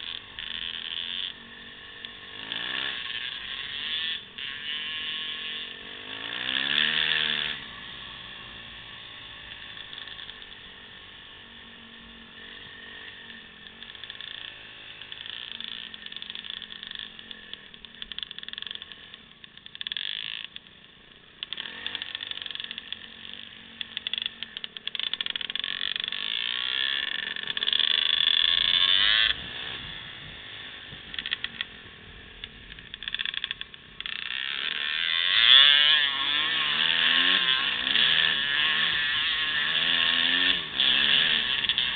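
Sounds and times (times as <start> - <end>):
dirt bike engine revving and idling: 0.0 - 41.9.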